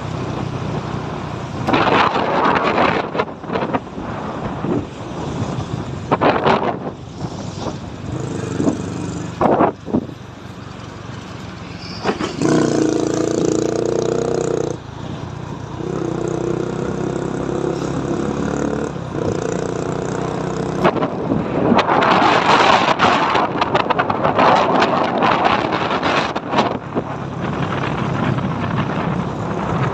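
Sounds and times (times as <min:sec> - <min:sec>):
car road noise: 0:00.0 - 0:29.9
engine drone: 0:00.0 - 0:29.9.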